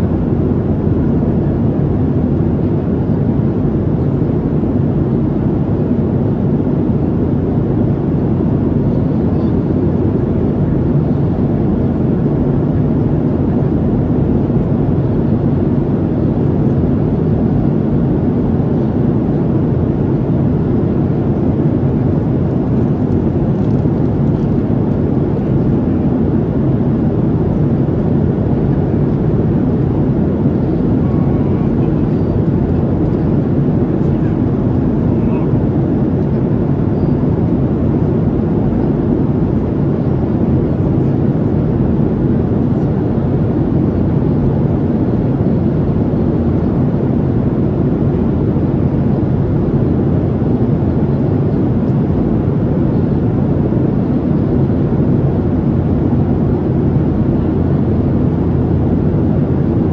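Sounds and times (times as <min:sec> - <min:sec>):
faint constant hum: 0:00.0 - 0:59.9
jet engine roar in cabin: 0:00.0 - 0:59.9.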